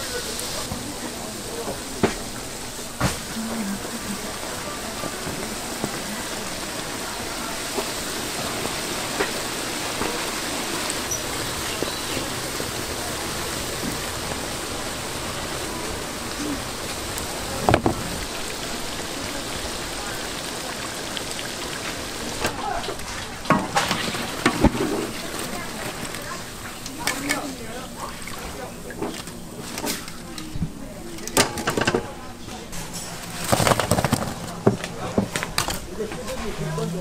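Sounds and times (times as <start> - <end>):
dough sizzling in hot oil: 0.0 - 30.0.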